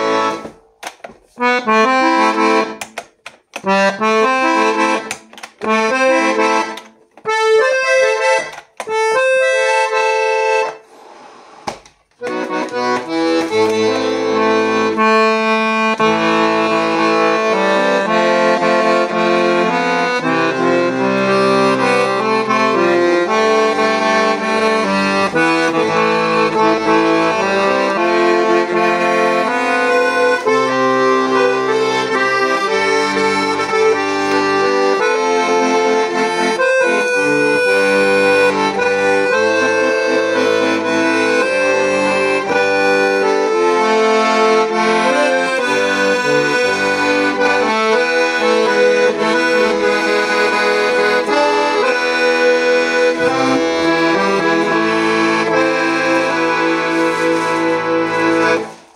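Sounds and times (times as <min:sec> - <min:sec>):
accordion chords: 0:00.0 - 0:58.9
accordion tune with bass accompaniment: 0:00.0 - 0:58.9.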